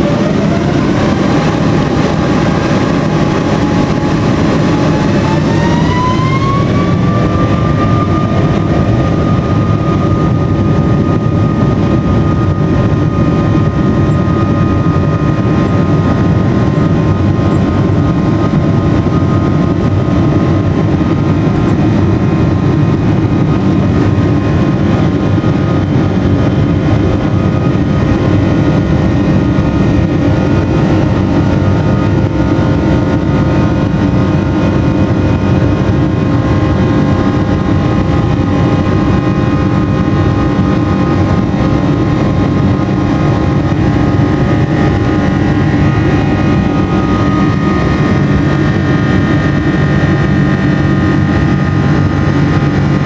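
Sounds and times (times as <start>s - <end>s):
jet engines spooling up: 0.0s - 53.0s
loud even rumble: 0.0s - 53.0s
rising engine whine: 0.0s - 53.0s.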